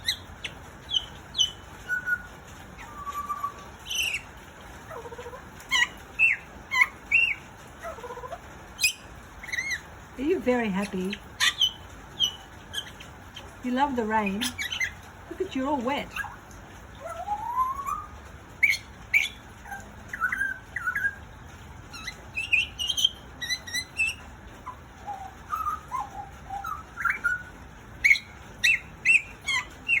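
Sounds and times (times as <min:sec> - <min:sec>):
butcherbird singing: 0:00.0 - 0:08.2, 0:08.8 - 0:21.3, 0:21.9 - 0:30.0.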